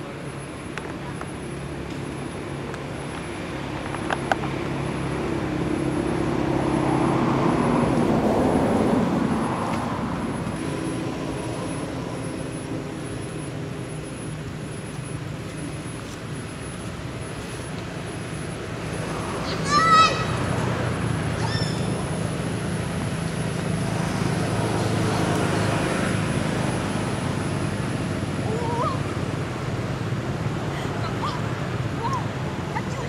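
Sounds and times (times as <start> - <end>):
engine drone passing by: 0.0 - 33.0.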